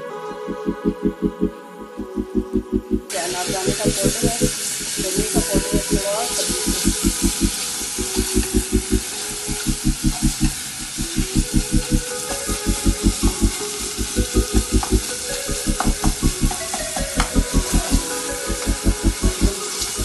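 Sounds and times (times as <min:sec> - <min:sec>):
fast pulsing background music: 0:00.4 - 0:20.0
food sizzling in oil: 0:03.1 - 0:20.0.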